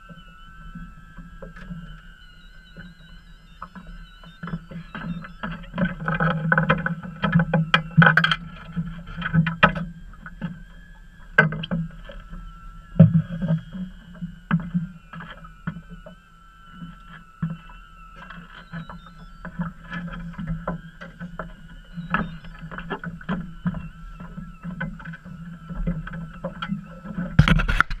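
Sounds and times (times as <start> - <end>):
steady high whine: 0.0 - 28.0.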